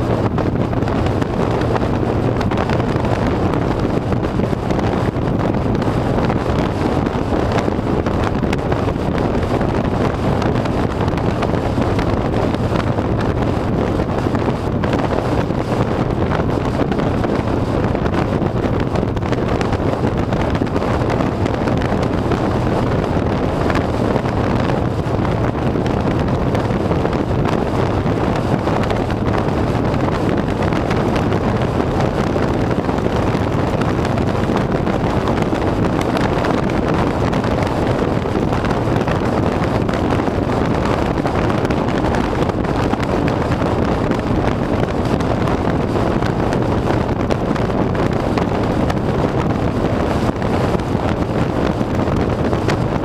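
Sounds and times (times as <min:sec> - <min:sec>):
motorcycle engine cruising: 0:00.0 - 0:53.0
wind rushing over microphone: 0:00.0 - 0:53.0.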